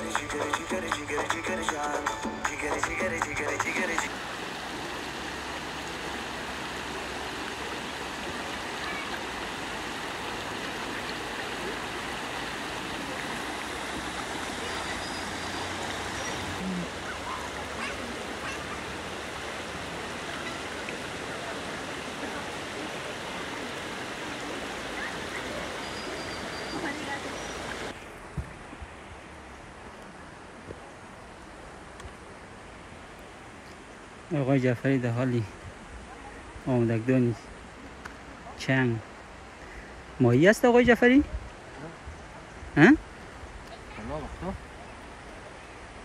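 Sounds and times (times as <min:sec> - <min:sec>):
water rushing: 0:00.0 - 0:46.0.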